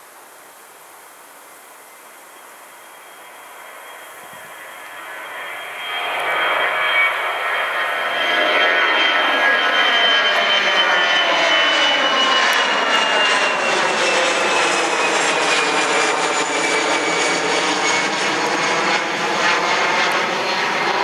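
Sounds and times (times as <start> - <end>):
jet engines roaring overhead: 2.6 - 21.0.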